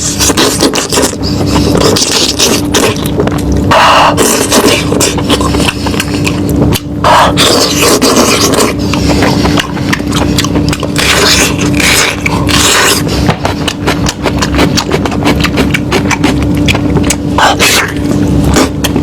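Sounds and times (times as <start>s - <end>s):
close-miked chewing: 0.0s - 19.0s
steady low hum: 0.0s - 19.0s.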